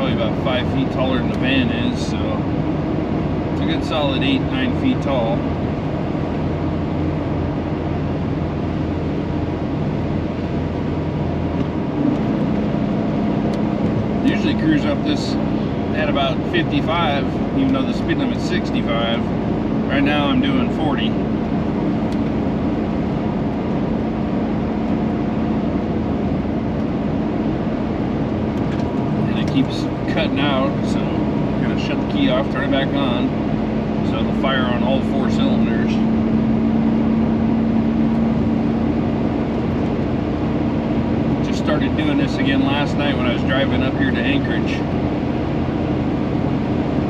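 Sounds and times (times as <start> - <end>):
road noise: 0.0 - 47.0
van engine drone: 0.0 - 47.0.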